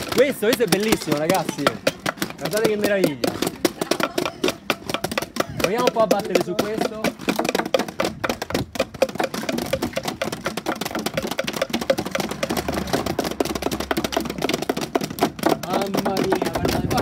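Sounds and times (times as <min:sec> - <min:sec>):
plastic bottles beating metal pole: 0:00.0 - 0:17.0.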